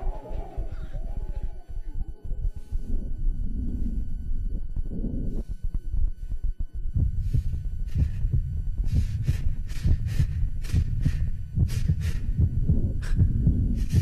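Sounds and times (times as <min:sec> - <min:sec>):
low throbbing pulse: 0:00.0 - 0:14.0.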